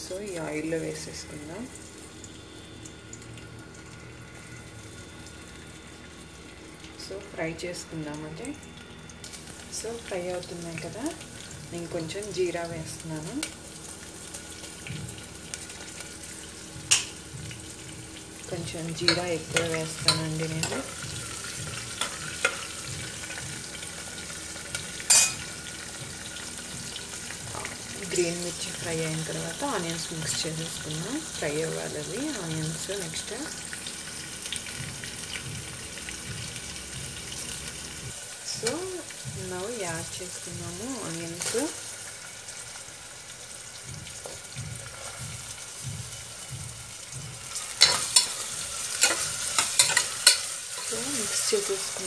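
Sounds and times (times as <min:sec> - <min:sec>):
vegetables sizzling in hot oil: 0:00.0 - 0:52.0.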